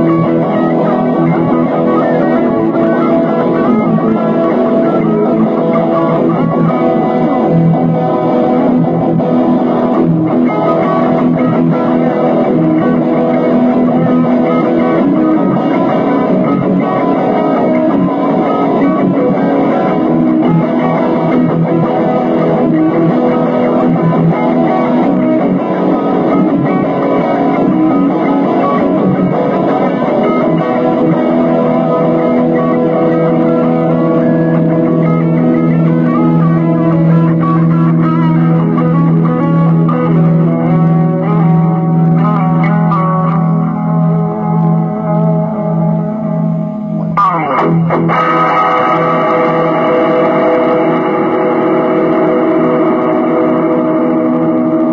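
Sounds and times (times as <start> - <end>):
electric guitar melody: 0.0 - 54.9.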